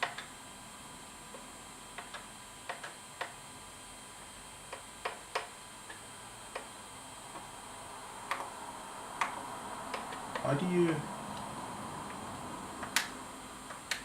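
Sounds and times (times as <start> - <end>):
faint electronic hiss: 0.0 - 14.0.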